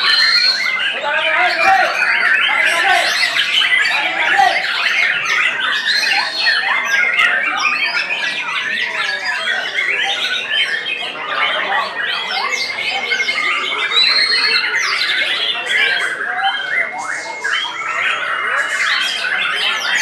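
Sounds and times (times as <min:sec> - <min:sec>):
birds singing: 0:00.0 - 0:20.0
fast bird trill: 0:00.0 - 0:20.0.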